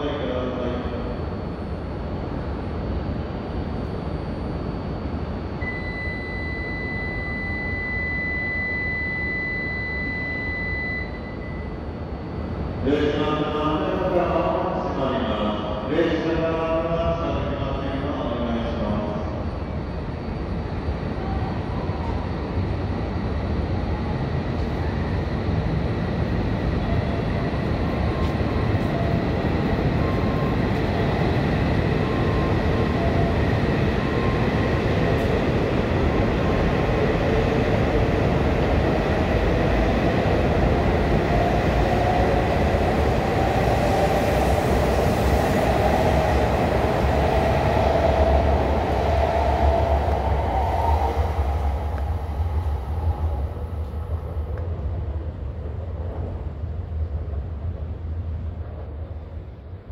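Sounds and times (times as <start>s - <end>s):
train whine rising in pitch: 0.4s - 12.8s, 19.2s - 56.3s
train running noise: 6.9s - 59.9s.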